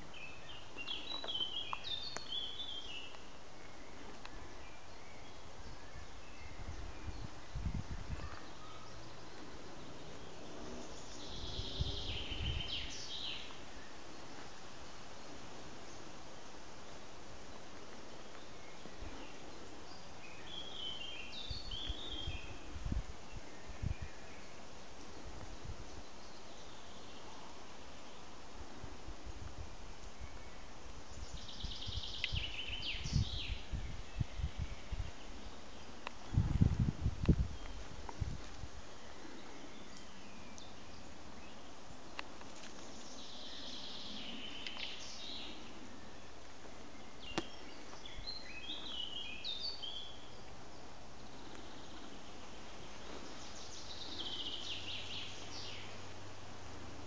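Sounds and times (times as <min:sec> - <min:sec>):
songbird singing: 0:00.0 - 0:57.0
steady woodland hiss: 0:00.0 - 0:57.0.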